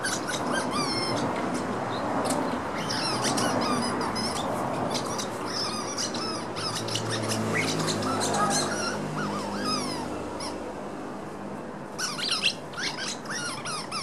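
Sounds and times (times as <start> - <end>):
squeaky toy squeaking: 0.0 - 1.7, 2.7 - 10.6, 11.9 - 14.0.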